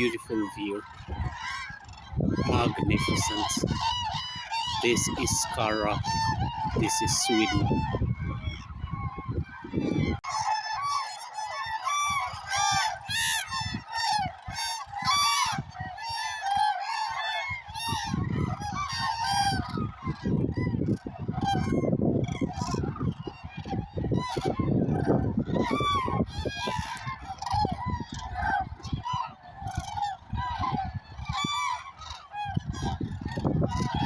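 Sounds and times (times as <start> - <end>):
cranes calling: 0.0 - 34.0.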